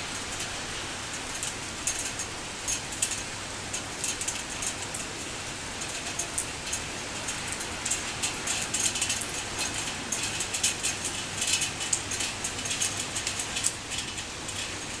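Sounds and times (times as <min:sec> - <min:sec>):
torrential rain pouring: 0:00.0 - 0:15.0.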